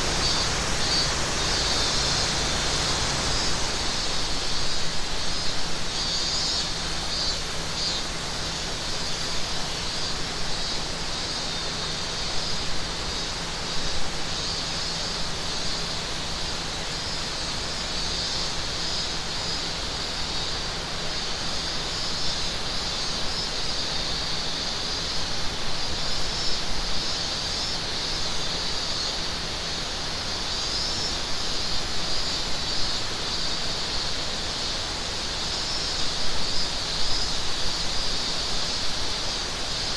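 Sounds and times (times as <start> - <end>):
cicadas chorus: 0.0 - 39.9
high flickering cicada buzz: 0.0 - 39.9.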